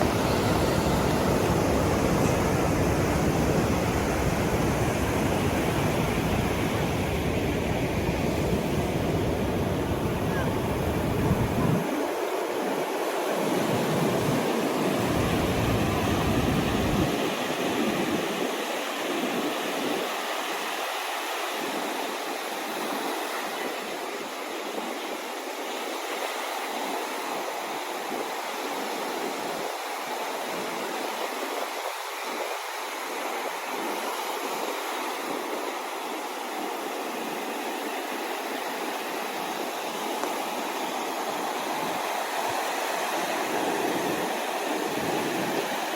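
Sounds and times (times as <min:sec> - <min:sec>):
ocean surf washing: 0:00.0 - 0:45.9.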